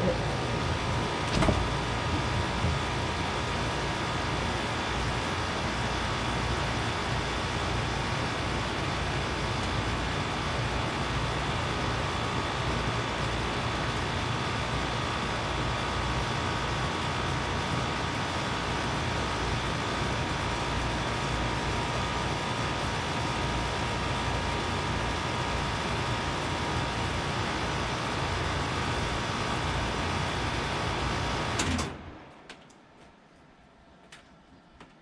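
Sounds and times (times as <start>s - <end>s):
air conditioner running: 0.0s - 35.0s.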